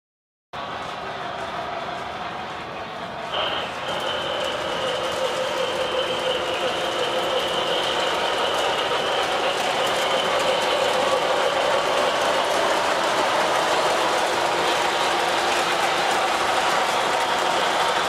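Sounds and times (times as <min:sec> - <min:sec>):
model train wheels on track: 0:00.6 - 0:18.0
high whine: 0:03.3 - 0:18.0.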